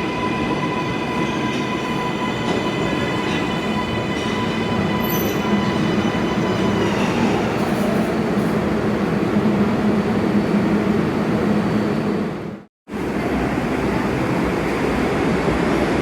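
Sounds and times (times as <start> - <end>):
subway train rumbling on track: 0.0 - 16.0.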